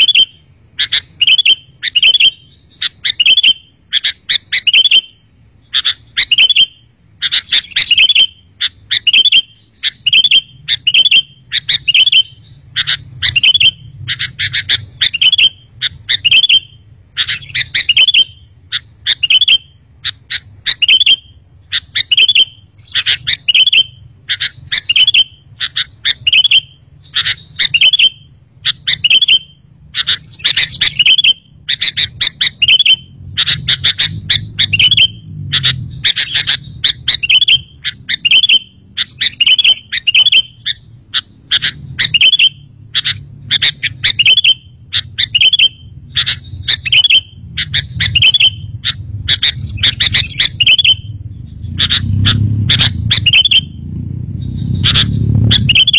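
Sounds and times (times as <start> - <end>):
bulbul chattering calls: 0.0 - 55.9
faint low hum: 0.0 - 55.9.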